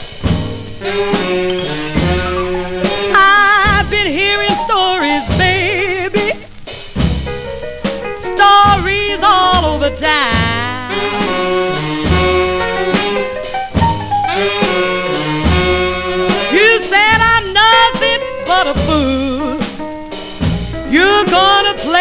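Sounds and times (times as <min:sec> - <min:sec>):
rhythm and blues band: 0:00.0 - 0:22.0
sliding melody line: 0:00.0 - 0:22.0.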